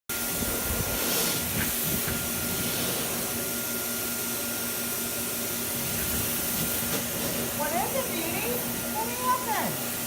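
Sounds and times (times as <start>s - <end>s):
blow dryer running: 0.1s - 10.0s.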